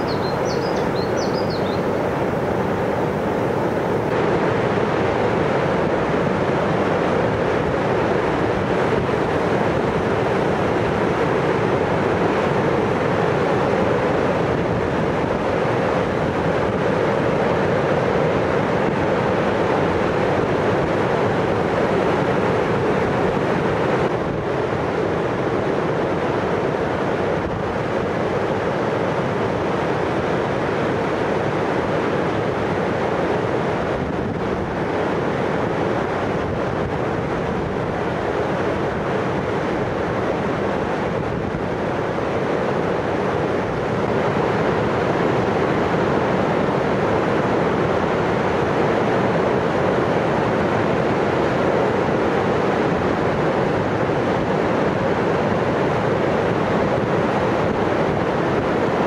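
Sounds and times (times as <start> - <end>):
river rushing over rapids: 0.0 - 59.0.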